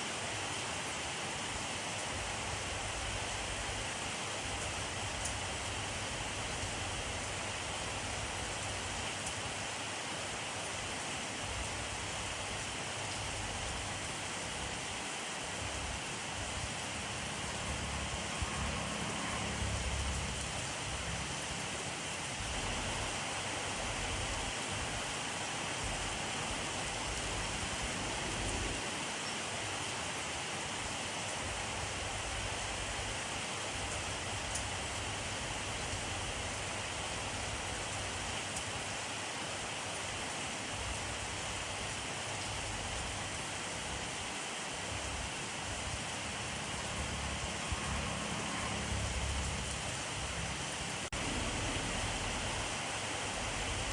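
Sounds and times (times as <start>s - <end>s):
rain pattering: 10.5s - 53.9s.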